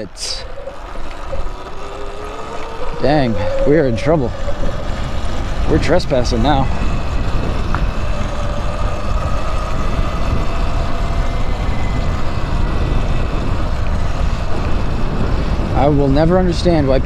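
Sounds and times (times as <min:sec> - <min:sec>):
electric motor whine: 0:00.0 - 0:17.0
wind rumbling on microphone: 0:00.0 - 0:17.0.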